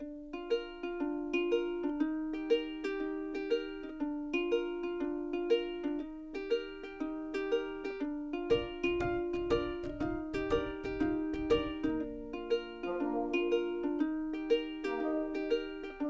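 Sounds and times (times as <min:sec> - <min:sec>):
plucked-string tune with beat: 0:00.0 - 0:16.0.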